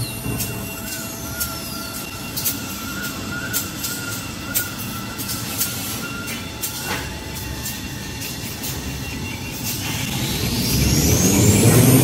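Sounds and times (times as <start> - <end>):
high whine: 0.0 - 12.0.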